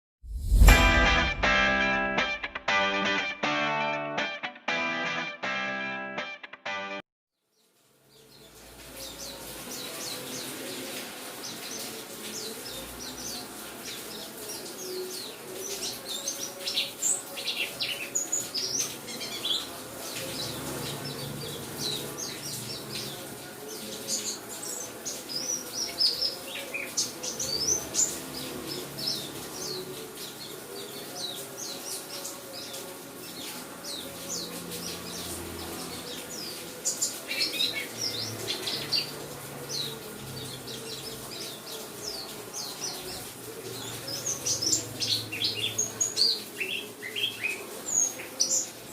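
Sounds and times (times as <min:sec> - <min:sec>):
rain hissing: 0:07.7 - 0:48.9.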